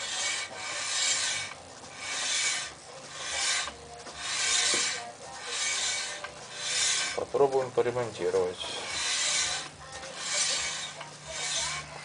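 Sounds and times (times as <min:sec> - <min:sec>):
brake disc scraping swish: 0:00.0 - 0:12.0.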